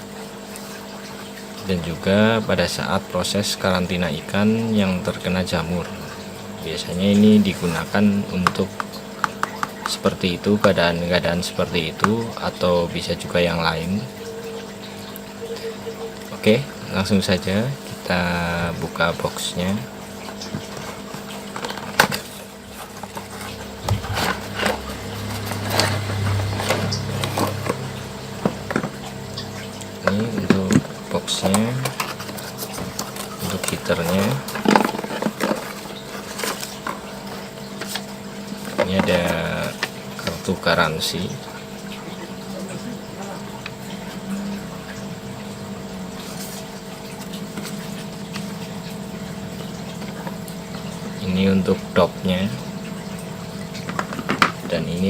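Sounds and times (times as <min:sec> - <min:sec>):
water moving: 0:00.0 - 0:55.0
steady low hum: 0:01.4 - 0:55.0.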